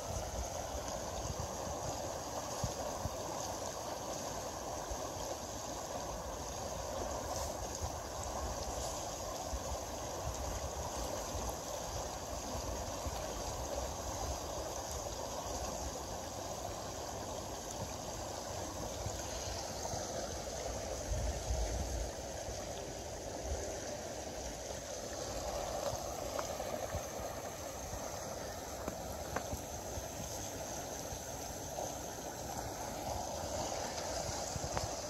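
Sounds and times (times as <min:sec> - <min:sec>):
river water rushing and gurgling: 0:00.0 - 0:35.0.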